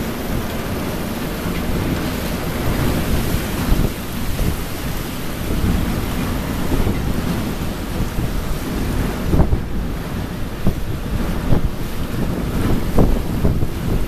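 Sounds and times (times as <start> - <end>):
water and ice rushing: 0.0 - 14.0
wind buffeting microphone: 0.0 - 14.0.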